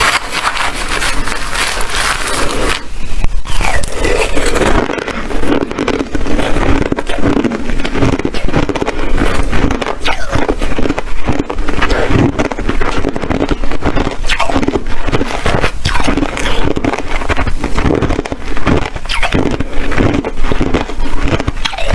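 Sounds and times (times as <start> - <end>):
ice being chewed: 0.0 - 21.9.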